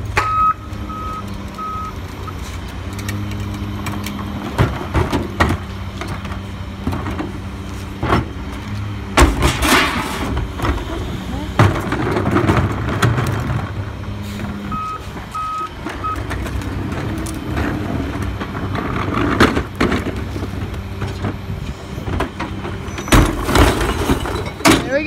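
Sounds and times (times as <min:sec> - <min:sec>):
garbage truck engine running: 0:00.0 - 0:25.0.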